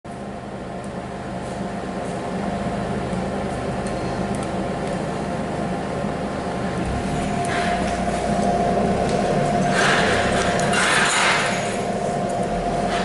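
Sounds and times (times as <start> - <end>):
diesel engine running: 0.1 - 13.0
steady whine: 2.4 - 13.0.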